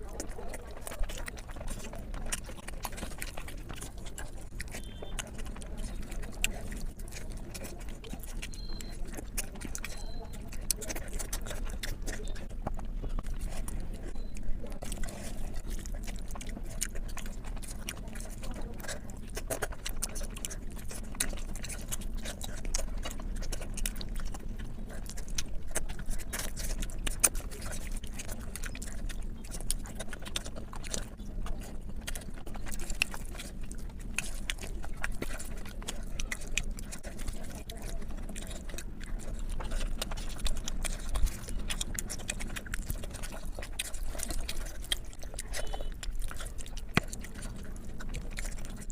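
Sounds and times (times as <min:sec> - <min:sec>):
close chewing and mouth clicks: 0:00.0 - 0:48.9.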